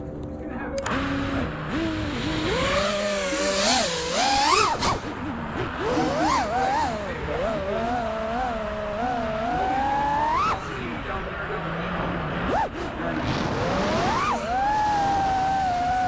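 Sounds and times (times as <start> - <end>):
quadcopter motors whining: 0.8 - 16.0.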